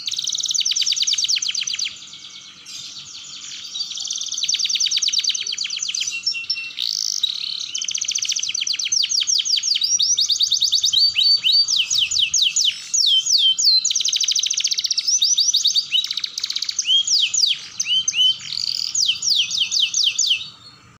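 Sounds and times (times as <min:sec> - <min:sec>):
canary singing trills: 0:00.0 - 0:21.0.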